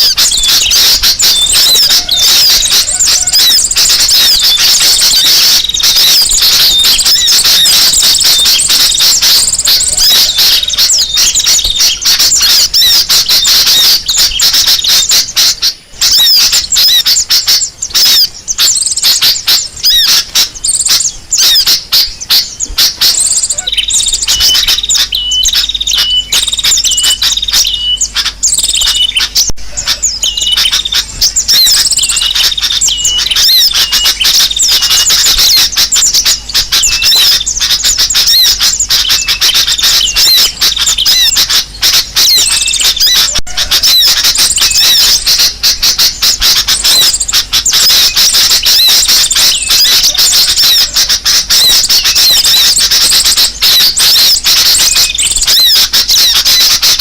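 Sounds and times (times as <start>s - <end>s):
small birds twittering chorus: 0.0s - 57.0s.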